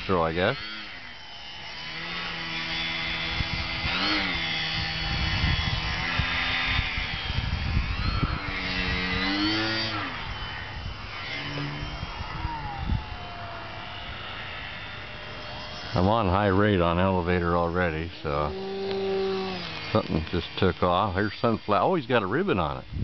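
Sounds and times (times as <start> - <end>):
model airplane motor whining: 0.0 - 23.0
wind buffeting microphone: 1.7 - 23.0.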